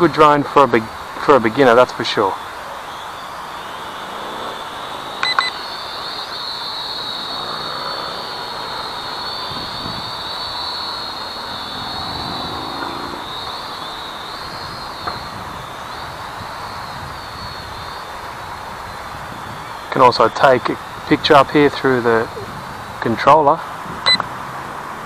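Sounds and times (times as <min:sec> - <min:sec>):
toy drone propellers whining: 0:01.4 - 0:23.4.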